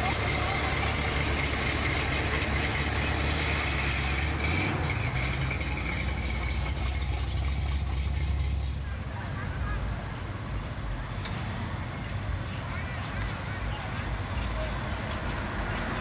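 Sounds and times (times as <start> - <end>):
car engine deep rumble: 0.0 - 16.0.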